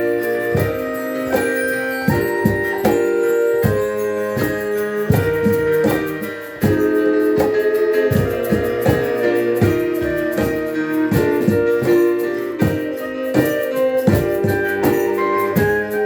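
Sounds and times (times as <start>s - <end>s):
percussive beat: 0.0s - 16.0s
piano playing: 0.0s - 16.0s
wind instrument long notes: 0.0s - 16.0s.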